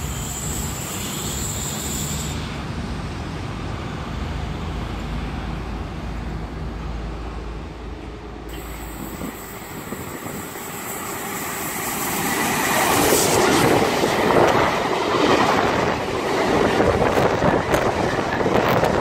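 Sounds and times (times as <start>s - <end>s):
train passing rumble: 0.0s - 19.0s.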